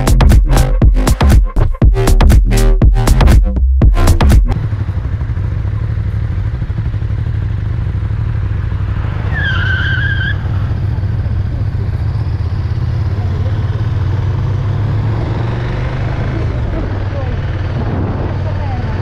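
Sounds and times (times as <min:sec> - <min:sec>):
motorcycle engine running: 0:00.0 - 0:09.4, 0:10.3 - 0:19.0.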